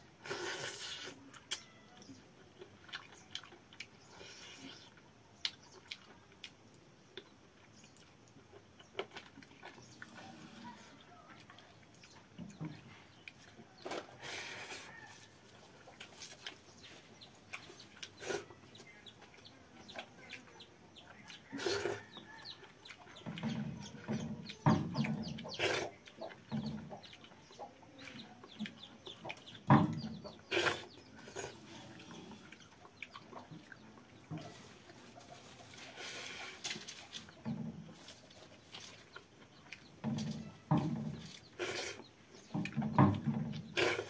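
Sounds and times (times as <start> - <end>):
chewing: 0.2 - 44.0
hens clucking: 8.4 - 44.0.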